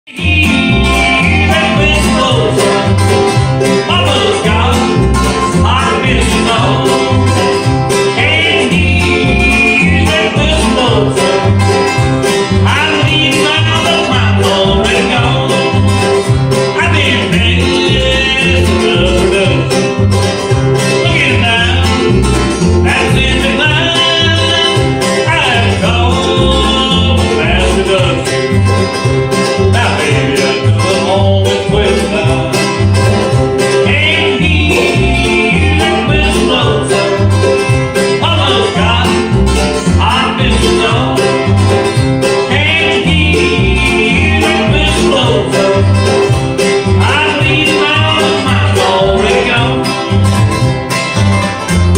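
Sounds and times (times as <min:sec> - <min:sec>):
bluegrass band playing: 0:00.1 - 0:51.9.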